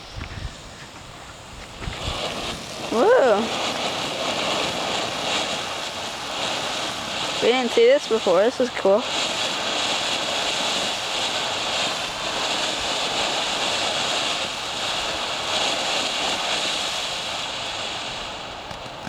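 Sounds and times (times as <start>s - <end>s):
firework spraying sparks hissing: 0.0s - 19.0s.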